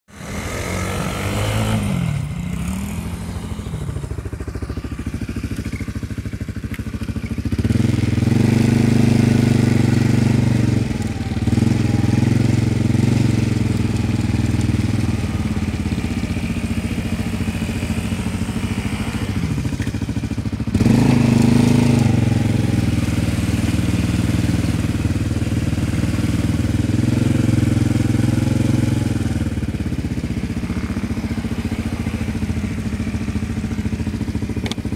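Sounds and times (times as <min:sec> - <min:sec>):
loud steady engine: 0:00.1 - 0:34.9
small engine revving: 0:00.1 - 0:34.9.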